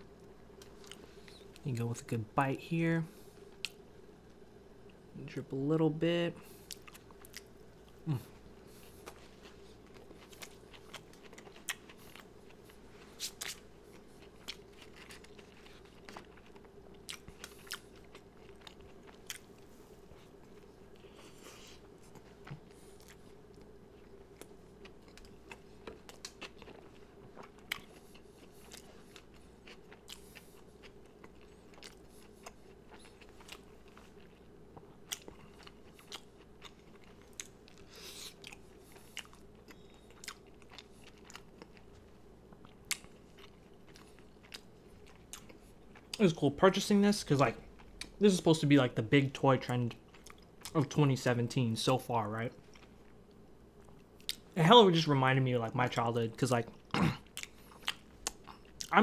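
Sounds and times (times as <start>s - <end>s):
faint steady hum: 0.0s - 59.0s
person chewing close up: 0.1s - 1.7s, 6.5s - 46.2s, 47.6s - 48.2s, 49.9s - 51.0s, 52.5s - 54.6s, 56.6s - 59.0s.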